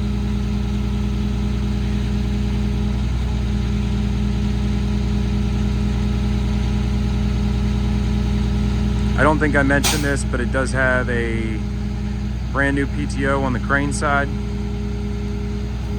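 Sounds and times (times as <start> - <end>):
diesel truck engine idling: 0.0 - 15.9.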